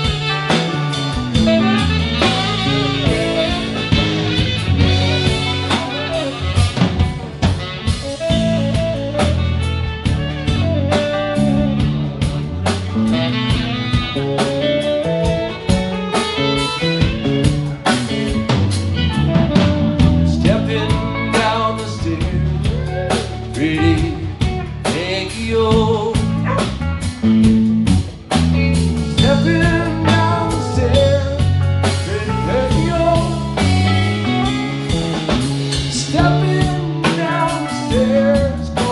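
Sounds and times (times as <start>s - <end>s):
saxophone: 0.0s - 25.3s, 26.0s - 38.9s
bass guitar: 0.0s - 38.9s
drum kit: 0.0s - 38.9s
electric guitar: 0.0s - 38.9s.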